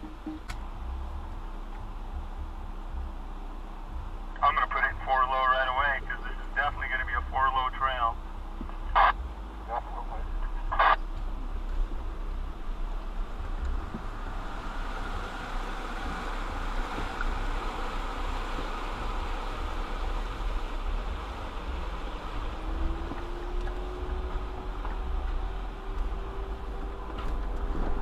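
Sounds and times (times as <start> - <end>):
vehicle engine rumble: 0.0 - 28.0.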